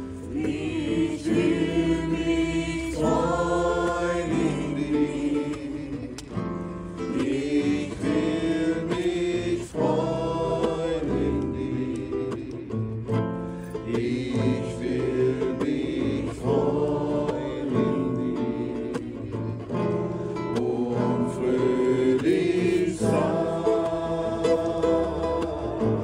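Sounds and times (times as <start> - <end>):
group singing worship song: 0.0 - 26.0
strummed acoustic guitar: 0.0 - 26.0.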